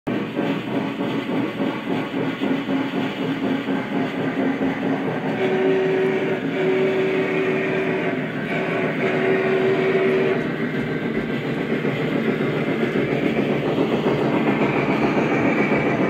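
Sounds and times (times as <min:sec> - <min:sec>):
model train wheels rumbling on track: 0:00.1 - 0:16.0.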